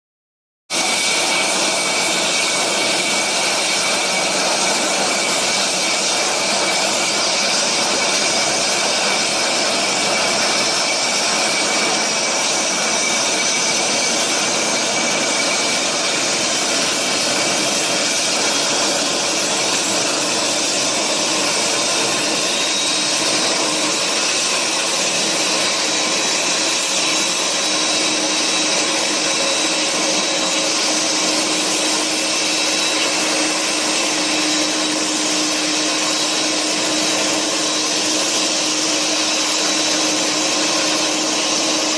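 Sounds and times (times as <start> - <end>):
high rising whine: 0.7 - 41.9
jet engine running: 0.7 - 41.9.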